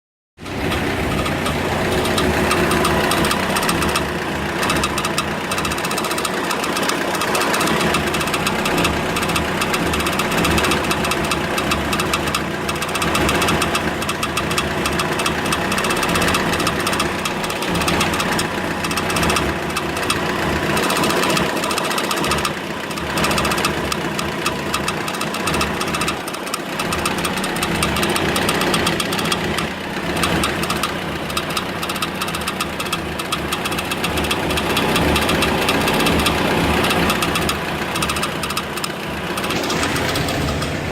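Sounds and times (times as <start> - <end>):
engine running with fast clatter: 0.4 - 40.9.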